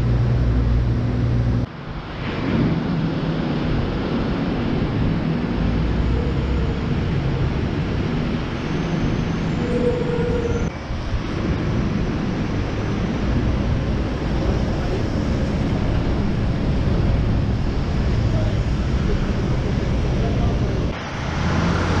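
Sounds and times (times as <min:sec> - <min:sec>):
low rumble of street traffic: 0:00.0 - 0:22.0
steady tone: 0:02.3 - 0:21.8.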